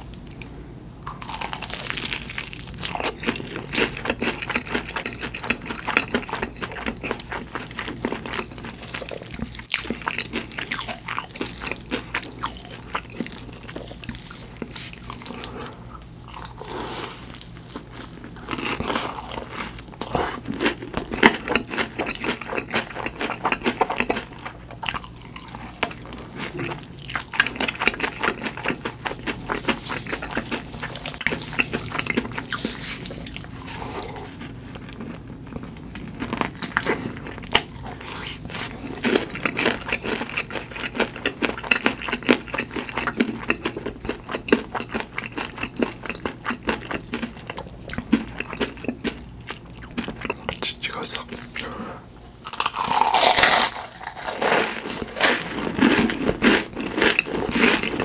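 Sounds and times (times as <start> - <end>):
crunching crispy fried food: 0.0 - 51.6, 52.4 - 58.0.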